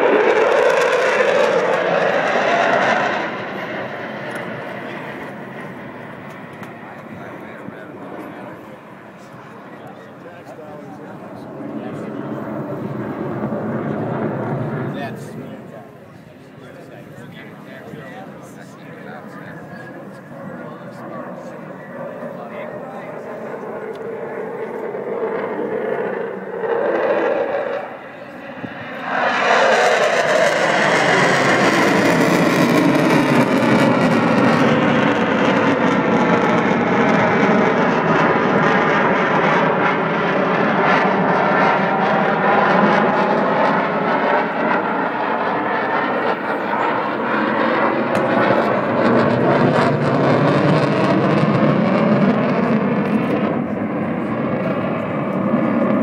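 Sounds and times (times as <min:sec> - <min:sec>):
jet flying overhead: 0:00.0 - 0:56.0.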